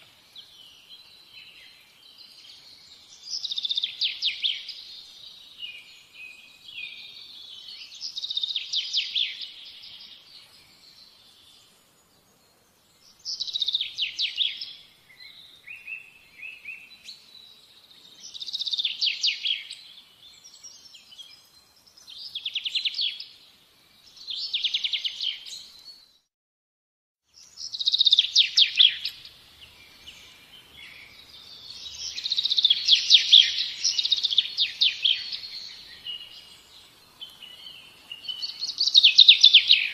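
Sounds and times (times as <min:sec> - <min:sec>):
songbird singing: 0:00.0 - 0:26.3, 0:27.2 - 0:39.9.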